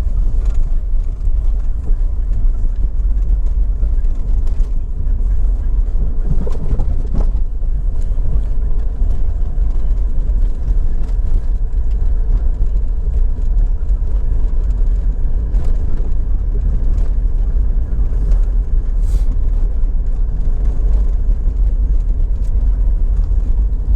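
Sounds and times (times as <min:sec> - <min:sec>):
vehicle road and engine rumble: 0:00.0 - 0:23.9.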